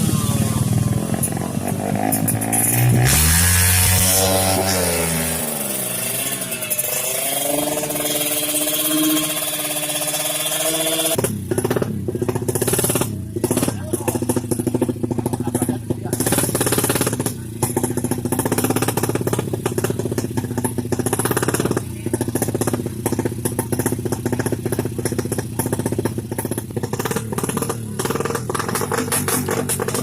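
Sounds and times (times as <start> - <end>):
motorcycle engine running loud: 0.0 - 30.0.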